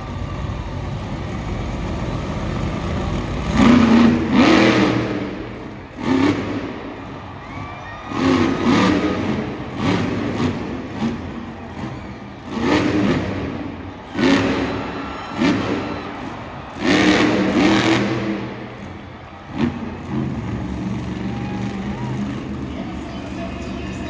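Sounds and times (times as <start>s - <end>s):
monster truck engines revving: 0.0s - 24.0s.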